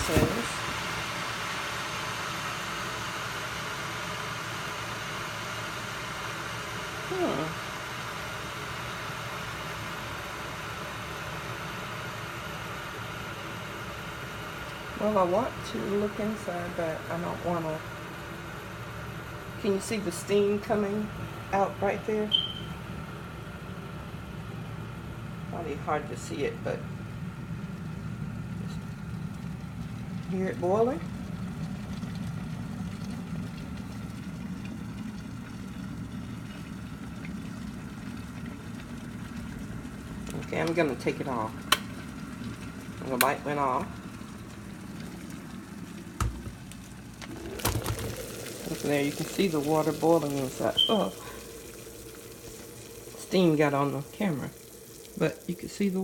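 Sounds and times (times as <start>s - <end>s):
electric kettle heating water: 0.0s - 56.0s.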